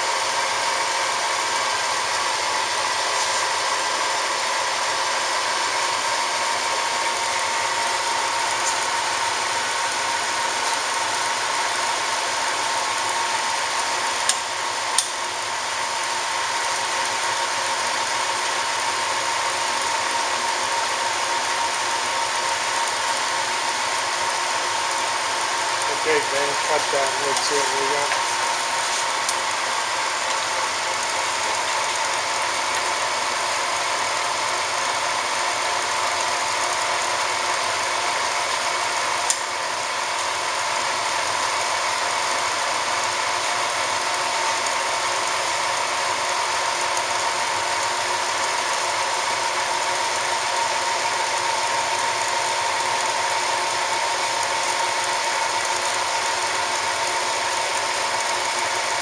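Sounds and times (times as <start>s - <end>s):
lathe whirring and humming: 0.0s - 59.0s.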